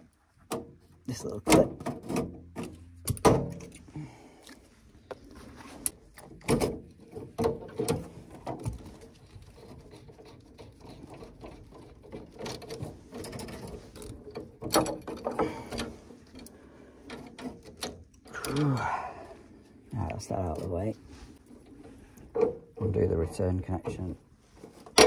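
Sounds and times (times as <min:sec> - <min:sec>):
clicks and rattles of boiler parts: 0:00.0 - 0:03.8, 0:05.9 - 0:18.9, 0:21.4 - 0:25.0.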